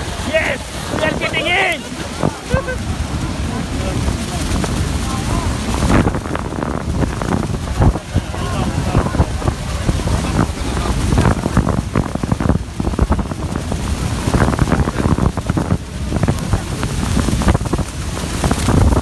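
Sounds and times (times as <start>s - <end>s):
rushing water: 0.0s - 19.0s
wind buffeting microphone: 0.0s - 19.0s.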